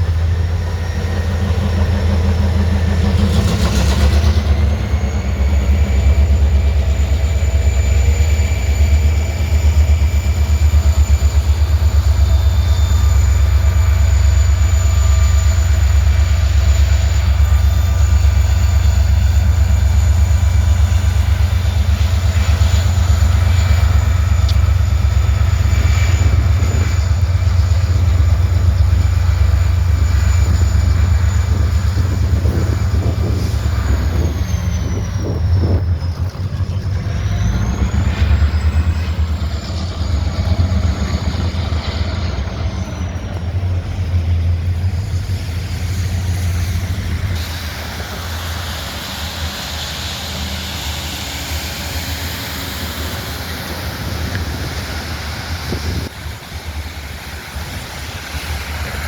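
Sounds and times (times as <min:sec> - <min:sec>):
high whine: 0:00.0 - 0:59.0
train rumbling: 0:00.0 - 0:59.0.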